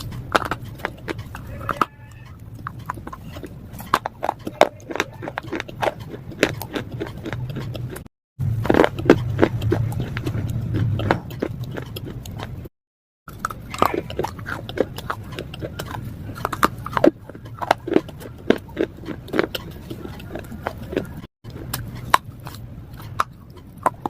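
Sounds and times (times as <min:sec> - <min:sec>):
chewing hard slate crunches: 0:00.0 - 0:12.7, 0:13.3 - 0:24.0.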